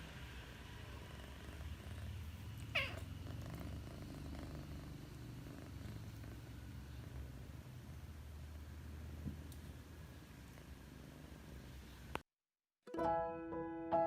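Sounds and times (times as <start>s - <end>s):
cat snoring low rumble: 0.0s - 12.2s.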